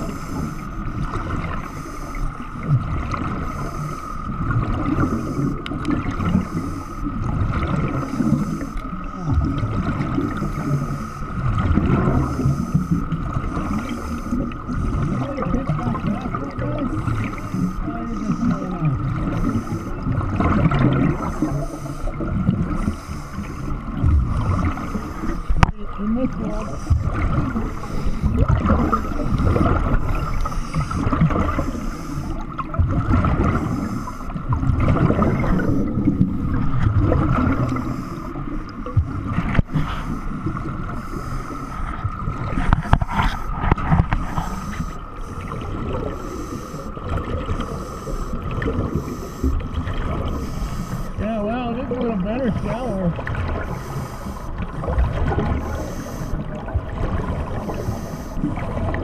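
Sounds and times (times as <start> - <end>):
steady high hum: 0.0 - 59.0
underwater bubbles gurgling: 0.0 - 59.0.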